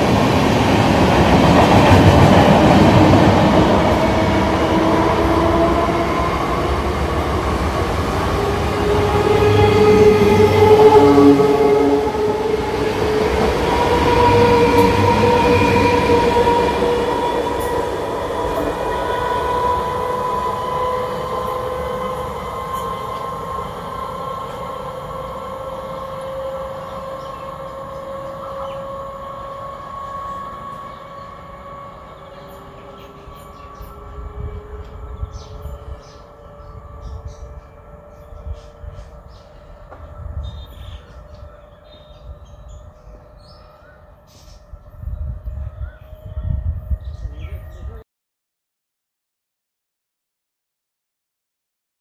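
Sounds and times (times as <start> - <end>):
electric train whine: 0.0 - 48.0.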